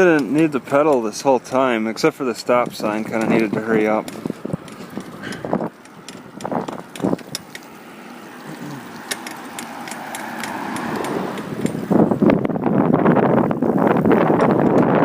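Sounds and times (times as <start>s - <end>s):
bicycle clicks and rattles: 0.0s - 12.6s, 13.4s - 15.0s
road and tyre noise: 0.0s - 15.0s.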